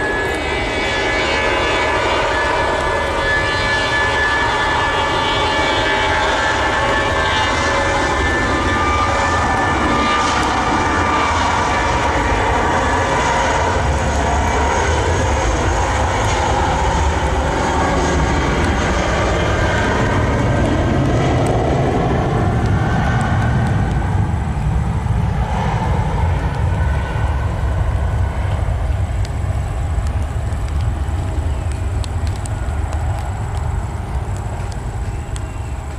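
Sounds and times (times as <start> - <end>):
deep rumble: 0.0 - 35.9
jet engines running loud: 0.0 - 35.9
whining engine tones: 0.0 - 35.9.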